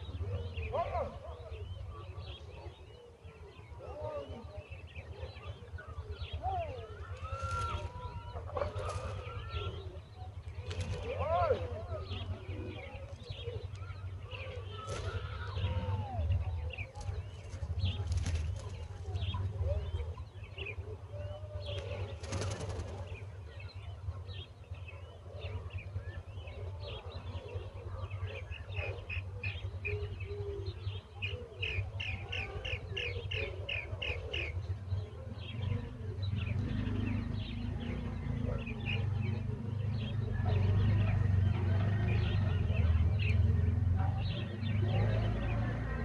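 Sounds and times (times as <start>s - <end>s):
nestling birds cheeping: 0.0s - 46.0s.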